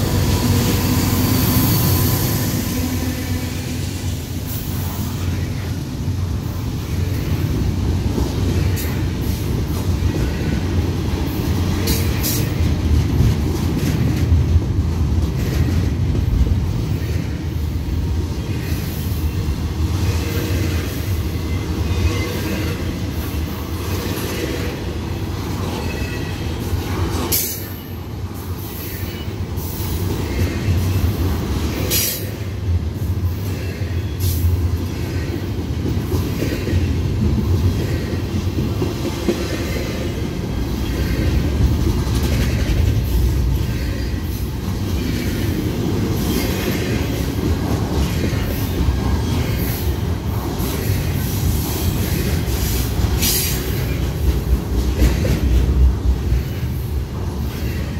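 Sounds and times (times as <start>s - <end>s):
steel wheels rumbling on rail: 0.0s - 57.9s.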